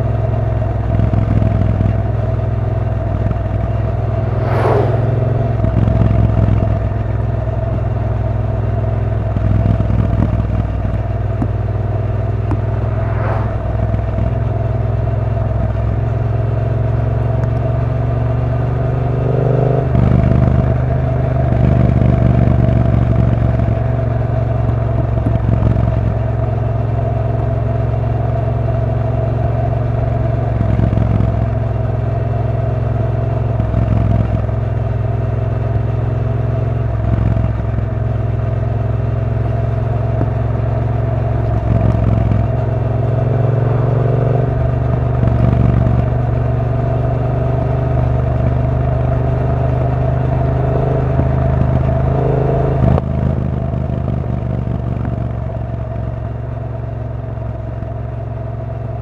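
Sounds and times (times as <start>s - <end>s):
motorcycle engine revving: 0.0s - 56.2s.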